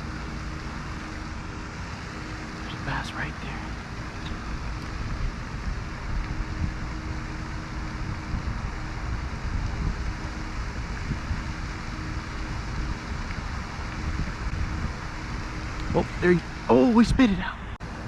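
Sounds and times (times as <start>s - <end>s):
outdoor background hiss: 0.0s - 18.0s
wind buffeting microphone: 0.0s - 18.0s.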